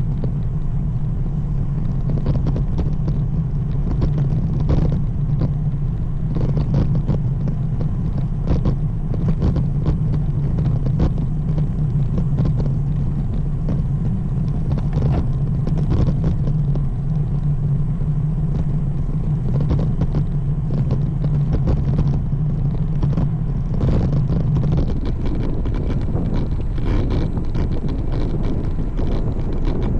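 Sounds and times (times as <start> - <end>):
tyre noise on pavement: 0.0 - 29.9
wind buffeting microphone: 0.0 - 29.9.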